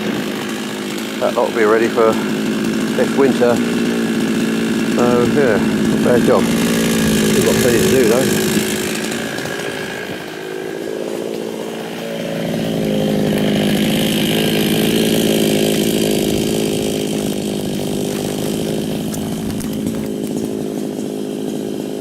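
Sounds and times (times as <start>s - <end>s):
chainsaw running: 0.0s - 22.0s.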